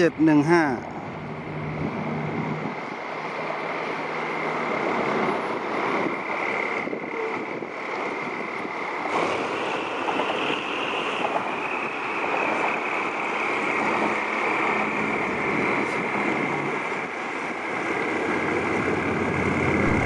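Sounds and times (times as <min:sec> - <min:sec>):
locomotive engine whine: 0:00.8 - 0:20.0.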